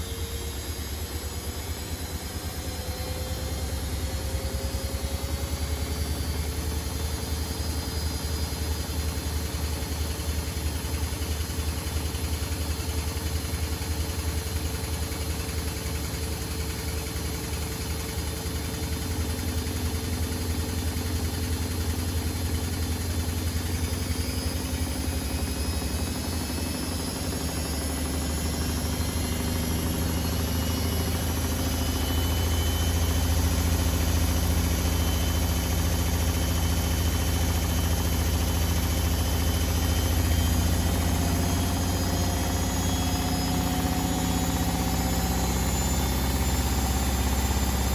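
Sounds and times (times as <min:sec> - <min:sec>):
washing machine running: 0:00.0 - 0:47.9.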